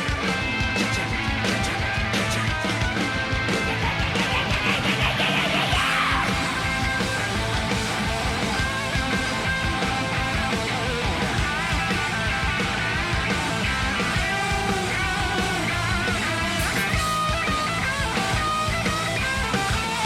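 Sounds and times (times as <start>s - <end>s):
hard rock band playing: 0.0s - 20.0s.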